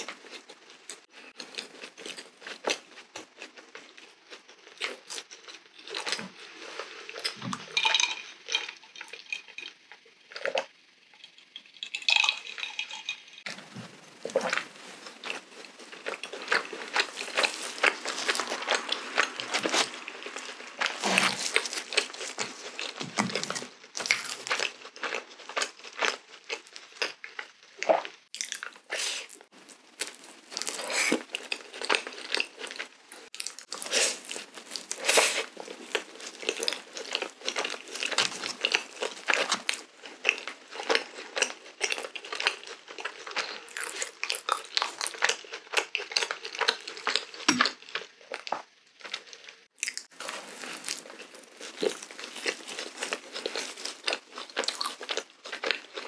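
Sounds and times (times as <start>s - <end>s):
close chewing with wet mouth sounds: 0.0s - 10.8s, 11.8s - 56.0s.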